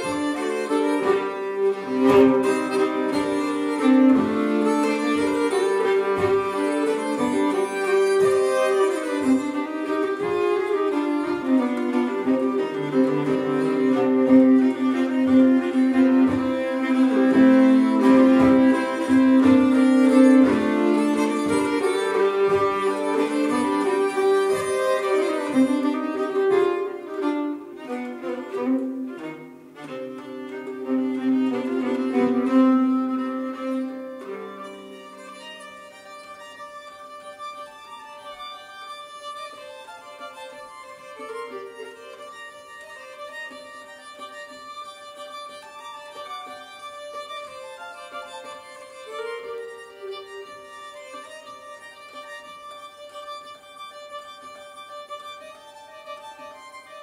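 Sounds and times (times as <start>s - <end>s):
fiddle melody: 0.0s - 57.0s.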